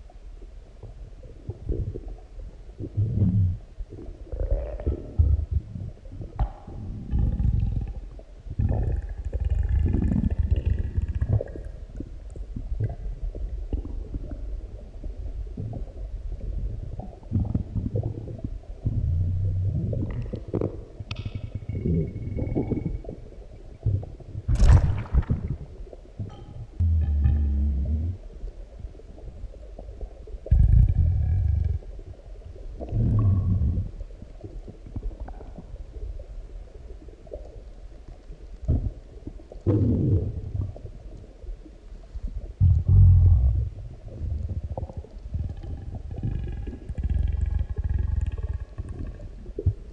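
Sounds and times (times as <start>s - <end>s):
stomach growling and gurgling: 0.0s - 49.9s.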